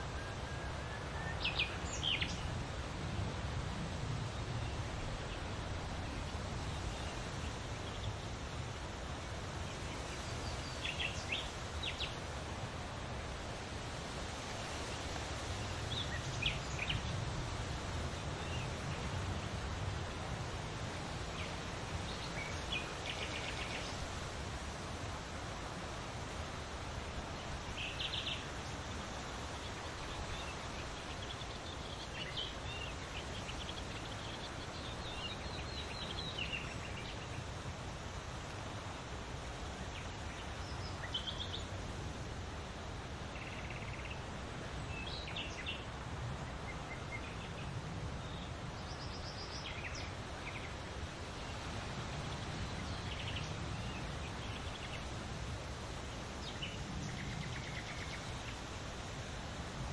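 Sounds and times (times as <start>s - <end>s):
leaves rustling in wind: 0.0s - 59.9s.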